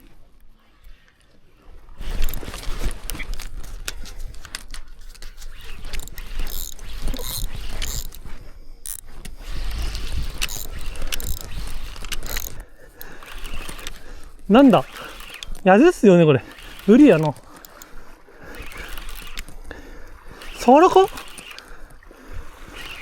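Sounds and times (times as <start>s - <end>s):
fishing reel clicking: 2.0s - 23.0s.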